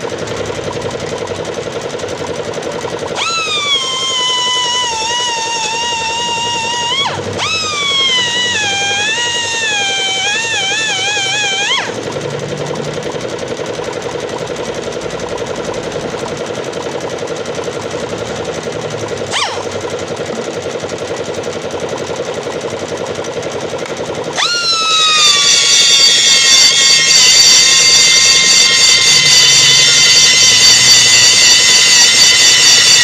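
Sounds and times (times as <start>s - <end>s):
air grinder whining: 0.0s - 33.0s
fast-pulsing mechanical rattle: 0.0s - 33.0s.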